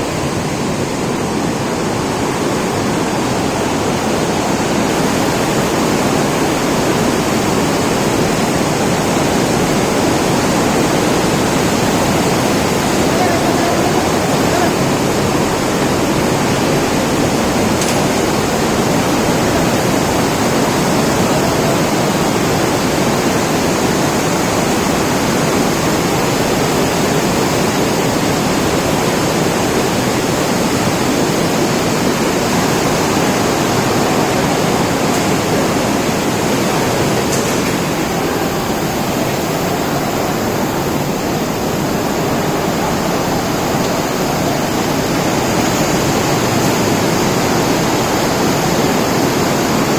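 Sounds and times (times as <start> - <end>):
rainwater rushing: 0.0 - 49.9.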